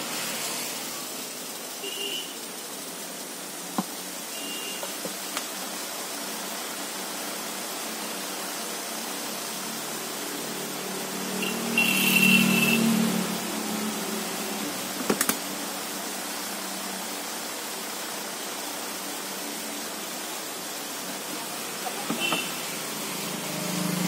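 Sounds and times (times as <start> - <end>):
workshop background hiss: 0.0 - 24.0.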